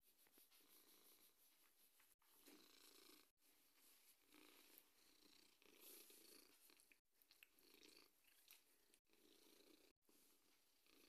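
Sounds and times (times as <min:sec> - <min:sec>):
cat purring: 0:00.3 - 0:03.3, 0:04.0 - 0:11.0.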